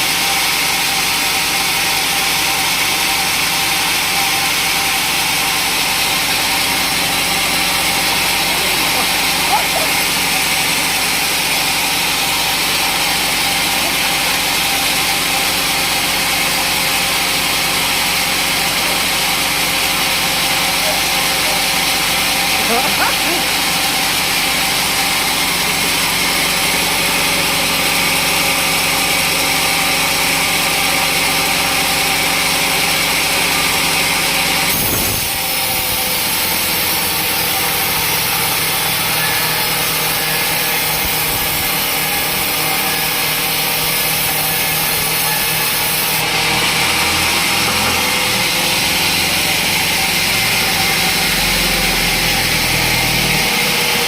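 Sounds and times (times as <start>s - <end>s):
machine hum: 2.0s - 54.0s
saw cutting hiss: 5.5s - 30.4s, 31.9s - 54.0s.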